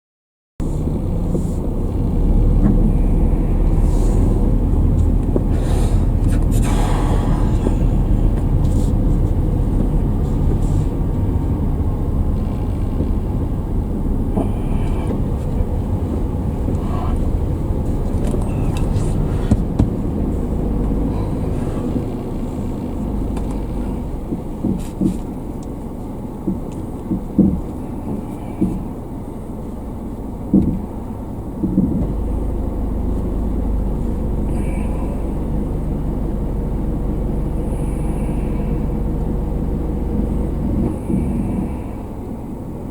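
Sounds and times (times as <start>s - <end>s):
car road and engine rumble: 0.6s - 42.9s.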